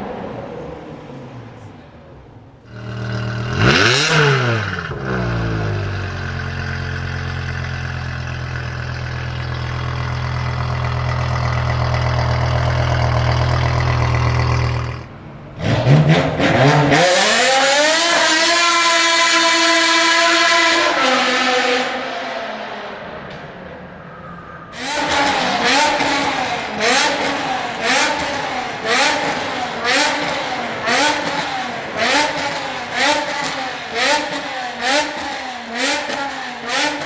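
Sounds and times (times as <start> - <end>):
car engine revving and idling: 2.4 - 22.7, 24.8 - 37.0.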